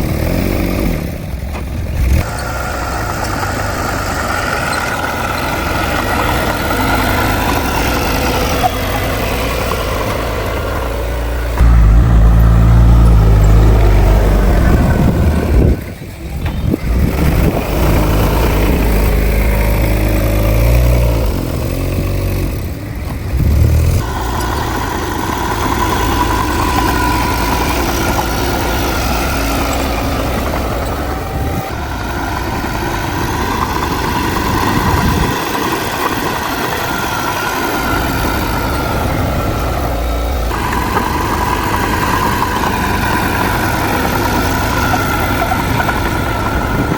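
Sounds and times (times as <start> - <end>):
diesel engine rumble: 0.0 - 46.9
high engine whine: 0.0 - 46.9.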